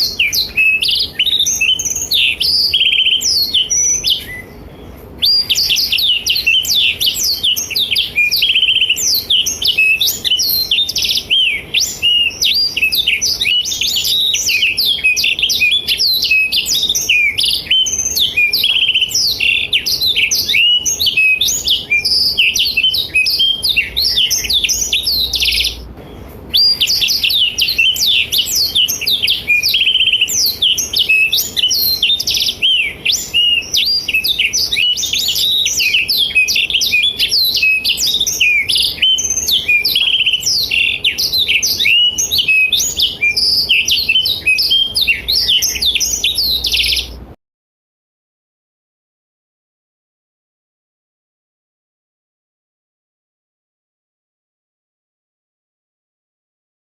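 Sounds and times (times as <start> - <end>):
bird chirping and trilling: 0.0 - 47.2.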